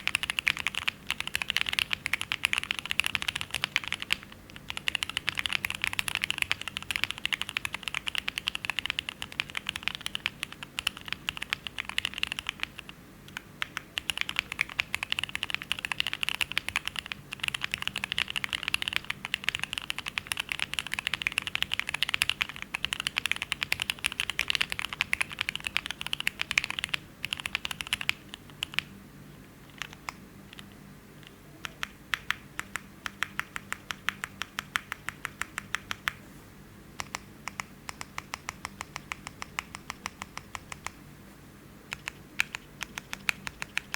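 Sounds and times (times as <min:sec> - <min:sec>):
fast typing on mechanical keyboard: 0:00.0 - 0:28.9, 0:29.6 - 0:30.8, 0:31.6 - 0:36.2, 0:37.0 - 0:41.0, 0:41.9 - 0:43.9.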